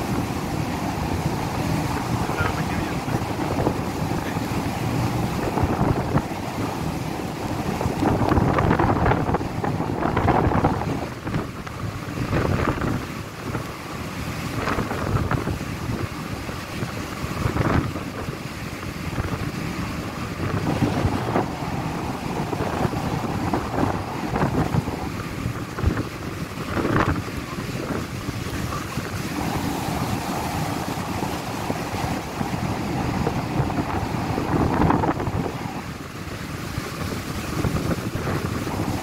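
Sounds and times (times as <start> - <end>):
rough sea rushing: 0.0 - 39.0
wind buffeting microphone: 0.0 - 39.0.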